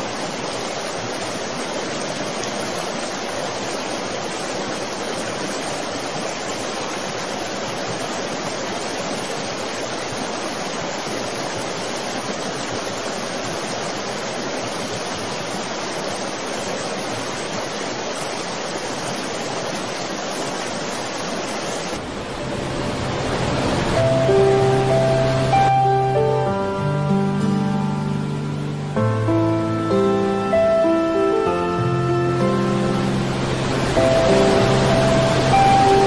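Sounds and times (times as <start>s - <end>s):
river rushing in flood: 0.0s - 36.0s.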